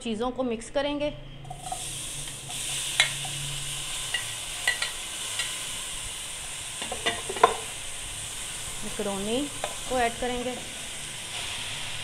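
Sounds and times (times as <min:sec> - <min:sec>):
frying sizzle: 0:01.5 - 0:12.0.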